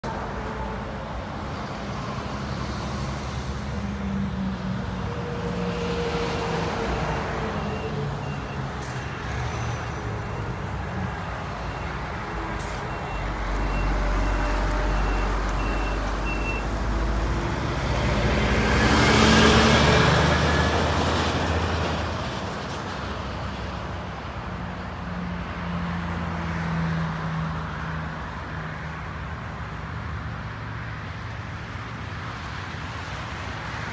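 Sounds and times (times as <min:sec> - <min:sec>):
highway traffic passing: 0:00.0 - 0:33.9.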